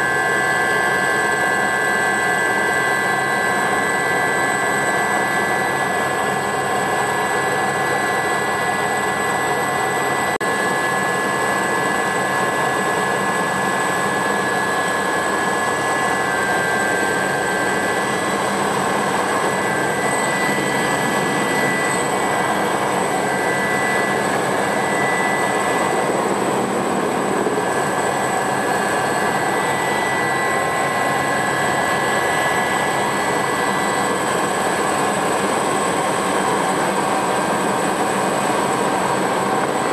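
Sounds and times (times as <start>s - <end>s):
helicopter turbine whine: 0.0s - 39.9s
rotor and airflow noise: 0.0s - 39.9s.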